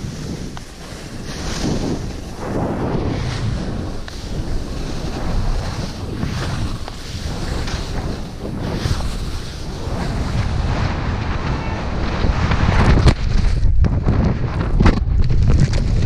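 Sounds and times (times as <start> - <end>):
snowboard sliding on snow: 0.0 - 16.0
wind rushing over microphone: 0.0 - 16.0.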